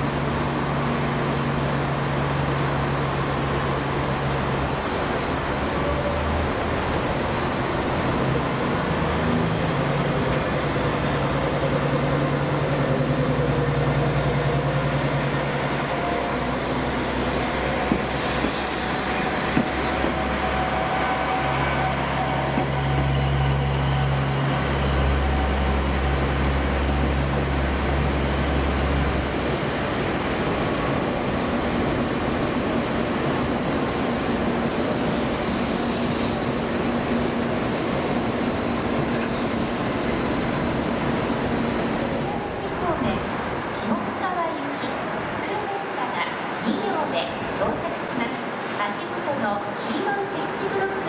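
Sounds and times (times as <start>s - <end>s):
train diesel engine drone: 0.0s - 51.0s.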